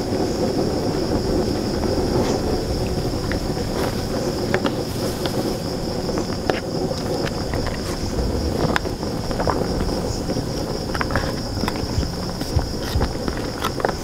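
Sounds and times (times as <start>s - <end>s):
insect drone: 0.0s - 14.0s
wok boiling and bubbling: 0.0s - 14.0s.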